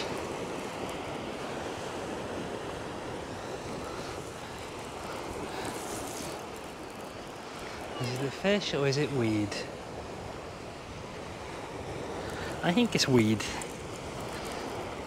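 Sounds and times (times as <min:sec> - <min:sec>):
waves washing up shingle beach: 0:00.0 - 0:15.0.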